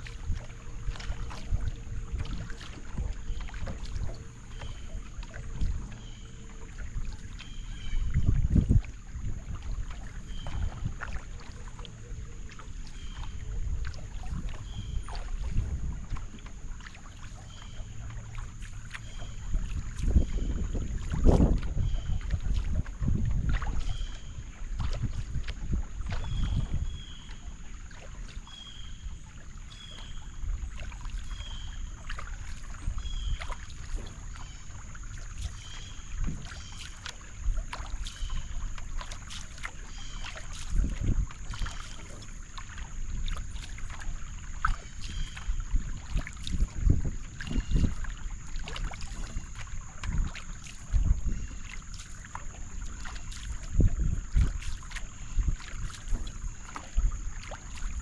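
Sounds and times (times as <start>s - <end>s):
paddle strokes in water: 0.0s - 58.0s
water splashes and drips: 0.0s - 58.0s.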